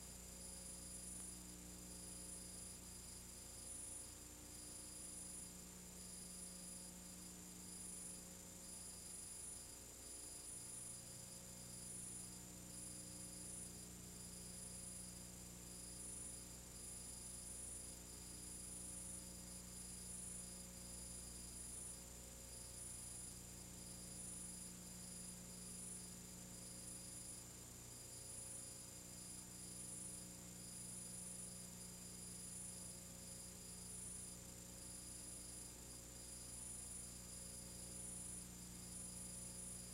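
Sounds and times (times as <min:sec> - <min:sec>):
faint mains hum: 0:00.0 - 0:39.9.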